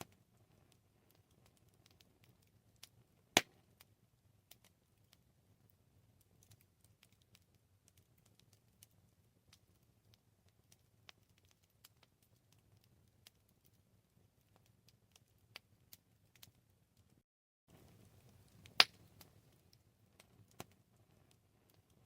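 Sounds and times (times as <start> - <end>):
campfire crackling: 0.0 - 22.0
low rumble of flames: 0.0 - 22.0.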